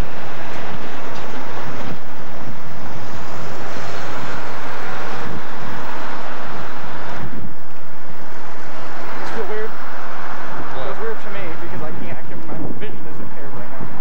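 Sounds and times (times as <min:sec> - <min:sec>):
passing traffic: 0:00.0 - 0:14.0
wind buffeting microphone: 0:00.0 - 0:14.0.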